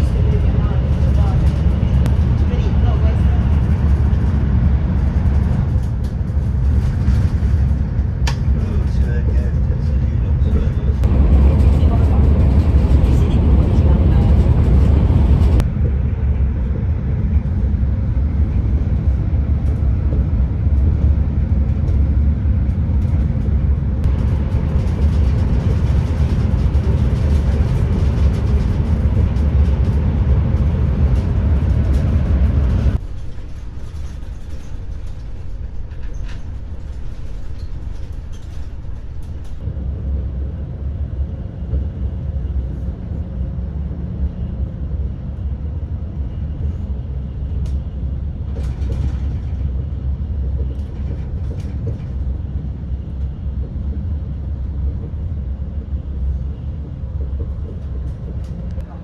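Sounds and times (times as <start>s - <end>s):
train cabin rumble: 0.0s - 59.0s.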